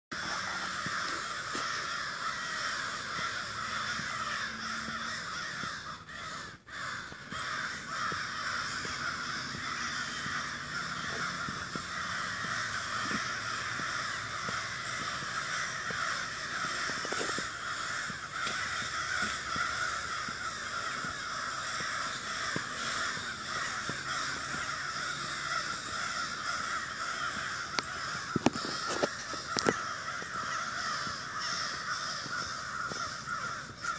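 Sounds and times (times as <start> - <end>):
crows cawing: 0.1 - 33.9.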